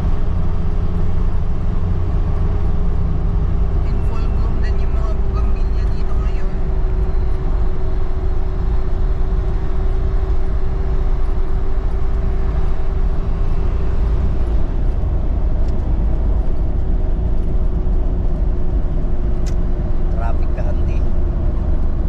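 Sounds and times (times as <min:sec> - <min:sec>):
constant hum: 0:00.0 - 0:22.0
road noise: 0:00.0 - 0:22.0
vehicle engine rumble: 0:00.0 - 0:22.0.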